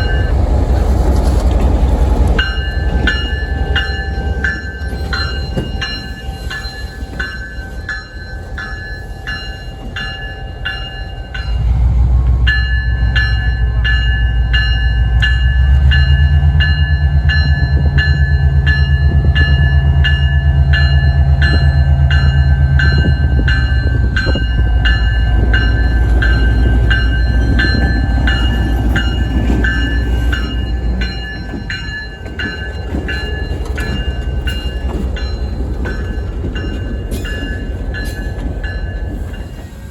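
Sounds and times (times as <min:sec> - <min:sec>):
railroad crossing bell ringing: 0:00.0 - 0:00.6, 0:02.4 - 0:39.9
train locomotive engine rumble: 0:00.0 - 0:39.9.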